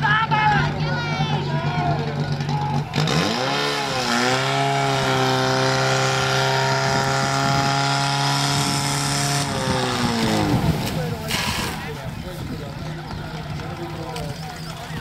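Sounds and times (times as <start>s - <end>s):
fire pump engine revving: 0.0s - 15.0s.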